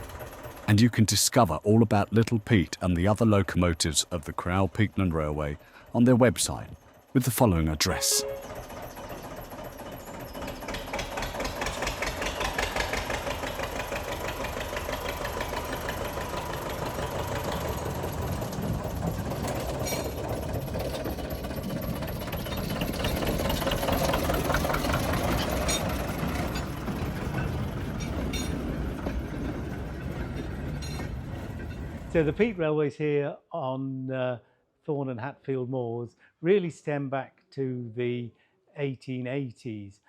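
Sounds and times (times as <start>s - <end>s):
diesel locomotive engine knocking: 0.0s - 32.6s.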